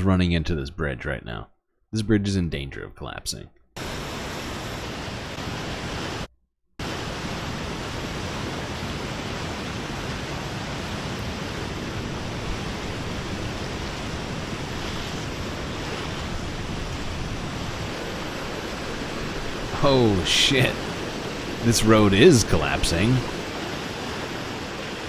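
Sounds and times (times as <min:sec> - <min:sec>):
floodwater rushing in river: 0:03.8 - 0:25.0.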